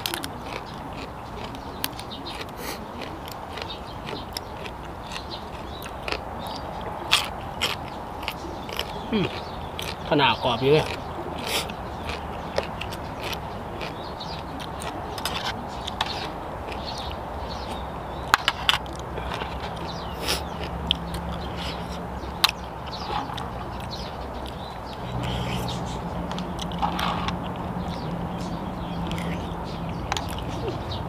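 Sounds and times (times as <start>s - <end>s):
chewing and mouth noises: 0.0s - 31.0s.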